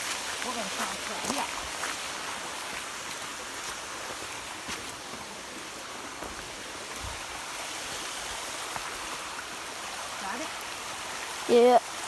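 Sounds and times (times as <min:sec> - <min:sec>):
water rushing from small waterfall: 0:00.0 - 0:12.0.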